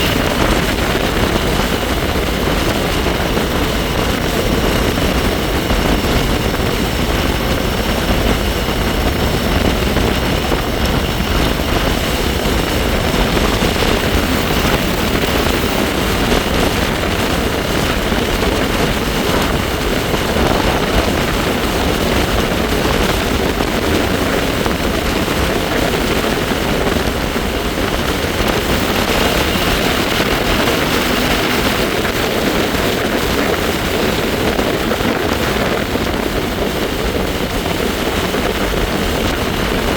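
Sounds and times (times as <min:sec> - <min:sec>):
bike high whine: 0:00.0 - 0:39.9
wind rushing over microphone: 0:00.0 - 0:39.9.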